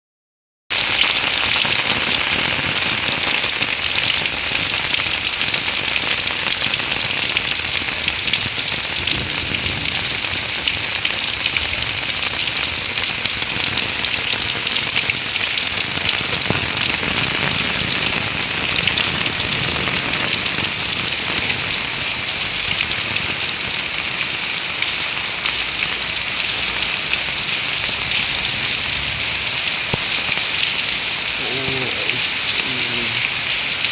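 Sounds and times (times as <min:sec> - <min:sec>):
heavy rain: 0:00.7 - 0:33.9.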